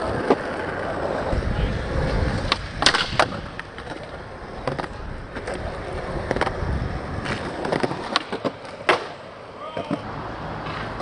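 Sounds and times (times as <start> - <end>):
skateboard clacking on ground: 0.0 - 11.0
skateboard wheels rumbling: 0.0 - 11.0.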